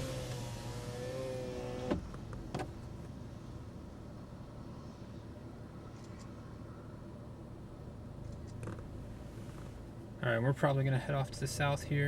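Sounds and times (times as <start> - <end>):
low rumble inside vehicle: 0.0 - 12.0.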